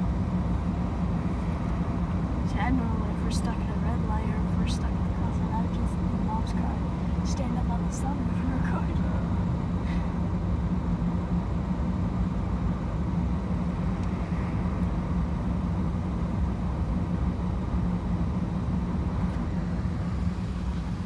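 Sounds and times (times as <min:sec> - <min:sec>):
car idling from inside: 0:00.0 - 0:21.0.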